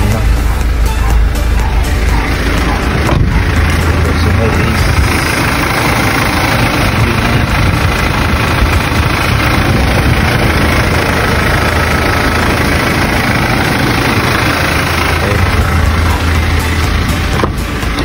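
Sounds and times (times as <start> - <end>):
van engine idling: 0.0 - 18.0.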